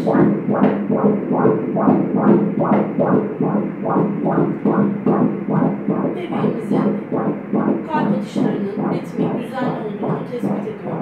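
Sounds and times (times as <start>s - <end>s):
fetal heartbeat pulses: 0.0s - 11.0s.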